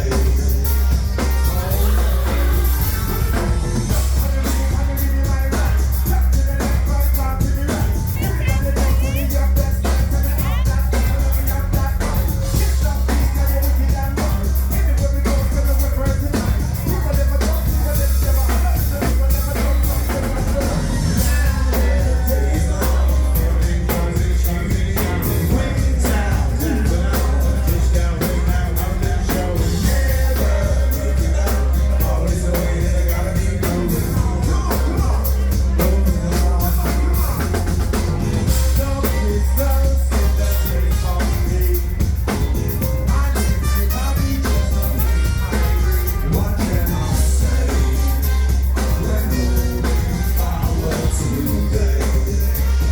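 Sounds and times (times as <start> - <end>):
bass line: 0.0 - 52.9
drum kit: 0.0 - 52.9
person singing: 0.0 - 52.9.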